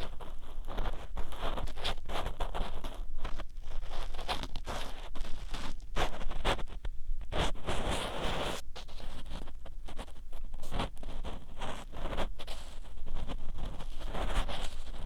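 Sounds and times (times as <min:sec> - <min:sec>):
ear tool scraping microphone: 0:00.0 - 0:15.0.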